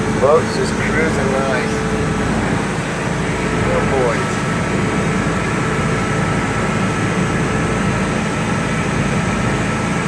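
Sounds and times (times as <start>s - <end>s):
faint steady whine: 0.0s - 10.0s
motorboat engine drone: 0.0s - 10.0s
wind and water rushing: 0.0s - 10.0s.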